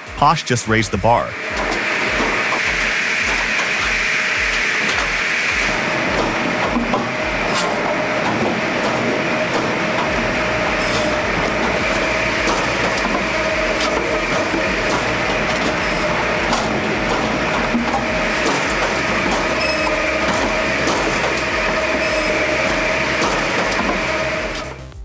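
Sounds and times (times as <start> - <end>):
low thuds: 0.0 - 25.0
machine whine: 0.0 - 25.0.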